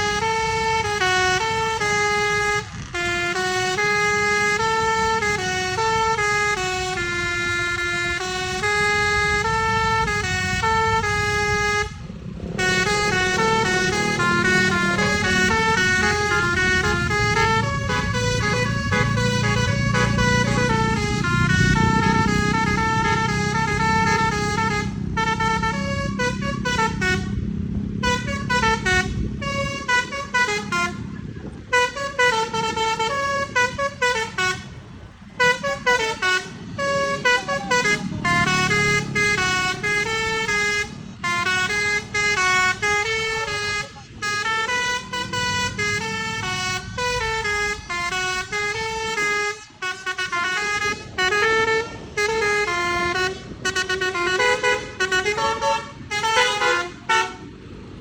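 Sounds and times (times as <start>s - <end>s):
musical air horn melody: 0.0s - 27.4s, 28.0s - 31.0s, 31.7s - 57.5s
low engine rumble: 0.0s - 58.0s.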